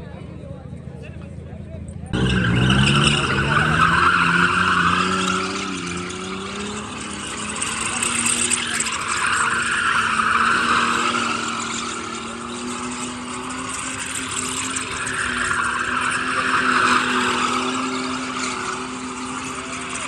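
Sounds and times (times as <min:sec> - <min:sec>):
car engine at high revs: 0:02.0 - 0:20.0
tyres squealing: 0:02.2 - 0:20.0.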